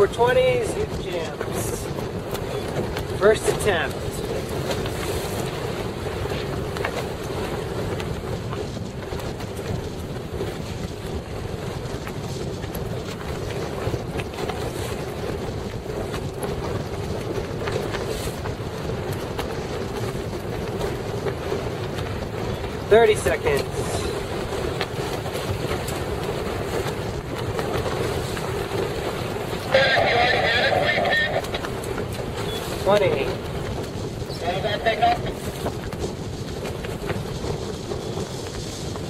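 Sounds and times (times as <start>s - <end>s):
motorboat engine running: 0.0s - 39.0s
waves splashing against hull: 0.0s - 39.0s
wind buffeting microphone: 0.0s - 39.0s.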